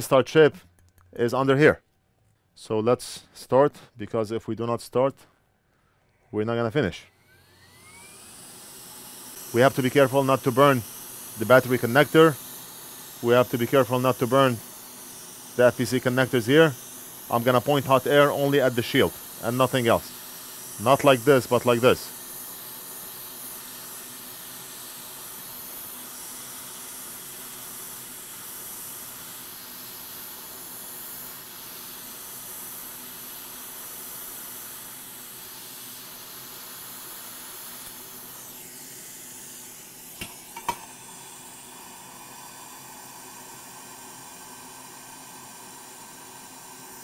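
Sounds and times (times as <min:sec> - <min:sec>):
hot air hissing: 0:07.3 - 0:47.0.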